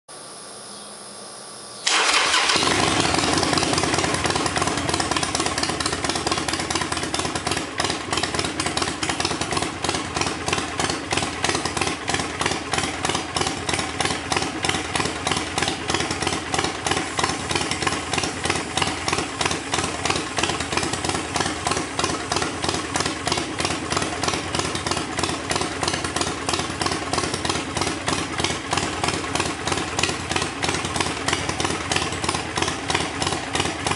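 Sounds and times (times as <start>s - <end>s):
motorcycle engine starting and idling: 1.8s - 33.9s.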